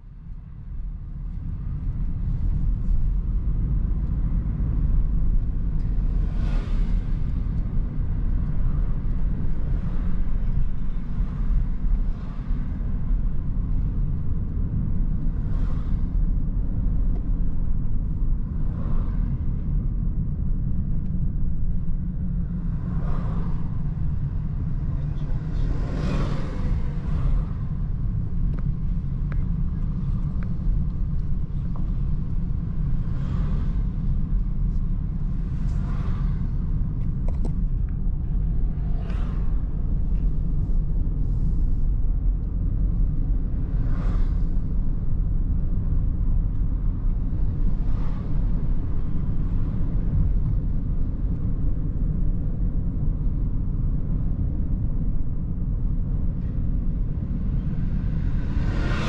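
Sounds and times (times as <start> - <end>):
car road and engine rumble: 0.0 - 59.0
vehicles passing: 0.2 - 59.0.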